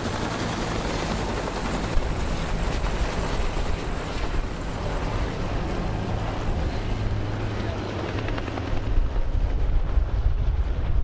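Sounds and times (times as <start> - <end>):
helicopter rotor beating: 0.0 - 11.0.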